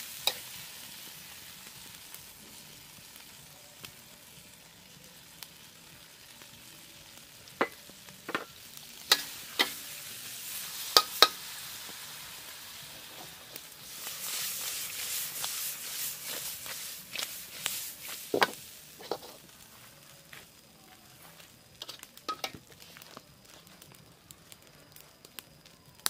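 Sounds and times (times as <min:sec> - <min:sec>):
lobsters sizzling in a wok: 0:00.0 - 0:26.0.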